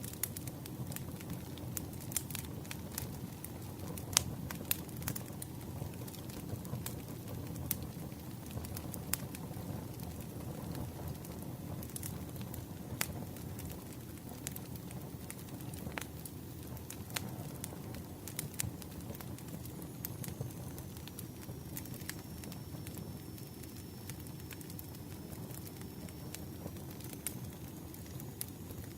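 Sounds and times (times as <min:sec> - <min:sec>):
campfire crackling: 0:00.0 - 0:28.9
fire pops and snaps: 0:00.0 - 0:28.9.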